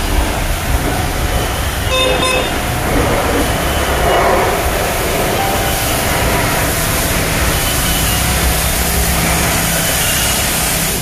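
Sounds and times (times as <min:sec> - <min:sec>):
machinery noise: 0:00.0 - 0:11.0
traffic noise: 0:00.0 - 0:11.0.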